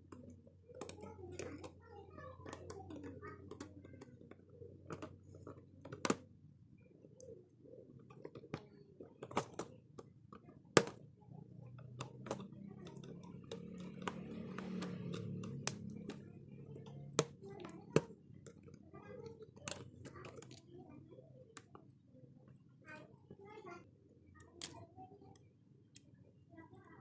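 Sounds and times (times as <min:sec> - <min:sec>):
low murmur of voices: 0:00.0 - 0:27.0.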